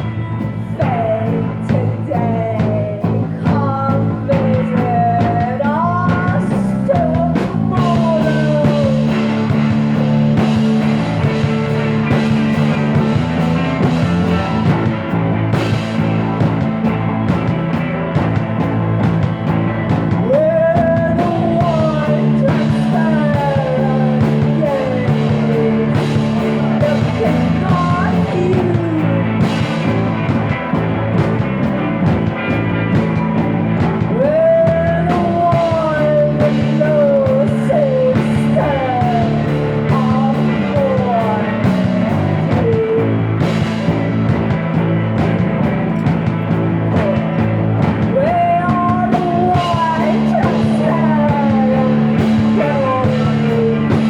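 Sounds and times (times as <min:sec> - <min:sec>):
gliding lead guitar line: 0:00.0 - 0:54.0
rock music: 0:00.0 - 0:54.0.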